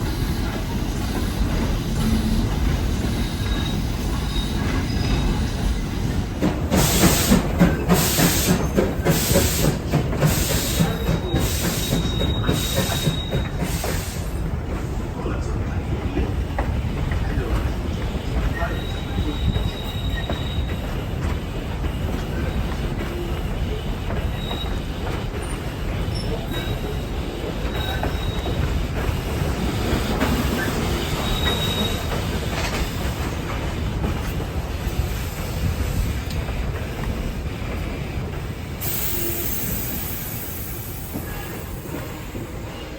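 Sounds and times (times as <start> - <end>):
train rumbling along track: 0.0 - 42.9.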